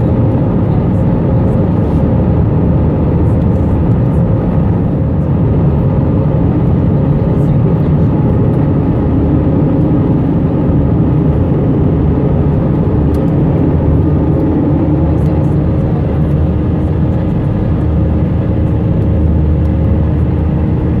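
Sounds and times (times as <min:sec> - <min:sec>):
jet engines and air rush rumble: 0:00.0 - 0:21.0.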